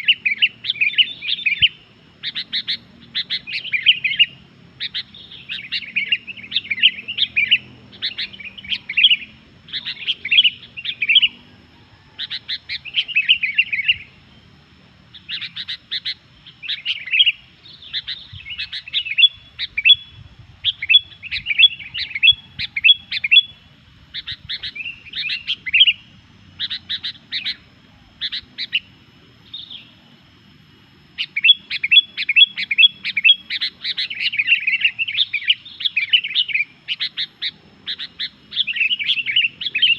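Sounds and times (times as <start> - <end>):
bird singing chirpy notes: 0.0 - 39.9.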